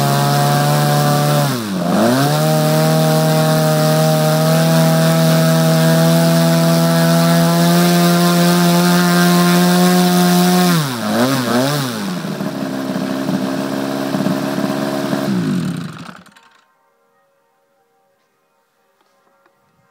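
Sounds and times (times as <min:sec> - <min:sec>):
model aircraft engine running: 0:00.0 - 0:16.6.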